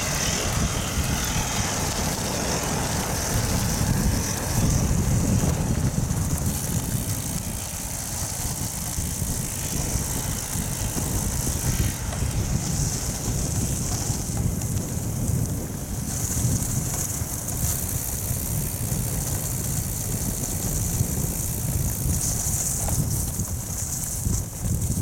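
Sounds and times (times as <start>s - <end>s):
tyres rolling over gravel: 0.0s - 25.0s
wind buffeting microphone: 0.0s - 25.0s.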